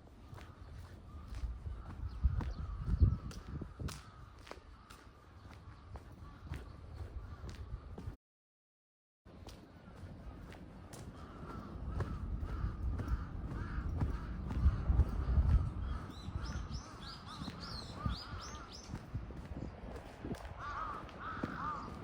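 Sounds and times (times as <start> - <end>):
small birds chirping: 0.0 - 8.1, 9.3 - 22.0
crows cawing: 0.2 - 8.0, 9.6 - 19.7, 20.3 - 22.0.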